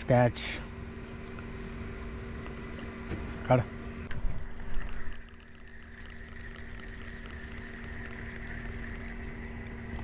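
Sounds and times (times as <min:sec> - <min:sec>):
steady mechanical drone: 0:00.0 - 0:10.0.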